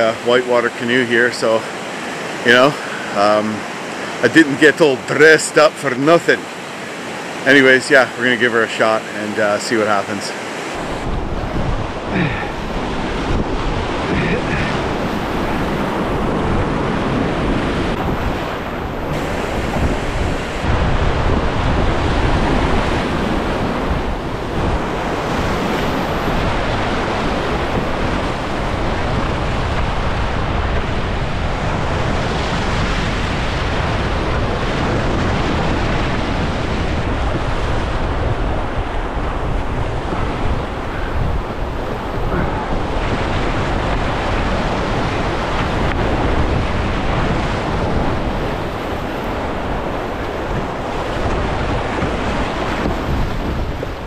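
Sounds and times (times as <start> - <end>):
whitewater rapids rushing: 0.0 - 54.0
wind buffeting microphone: 10.5 - 54.0.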